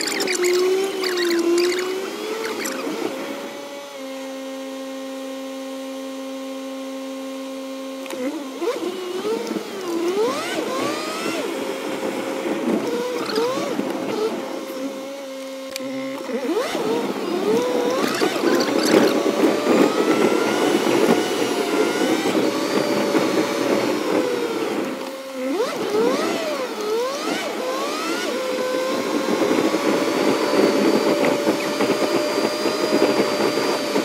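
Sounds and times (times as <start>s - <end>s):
road noise: 0.0s - 5.0s, 7.8s - 34.0s
car engine: 0.0s - 34.0s.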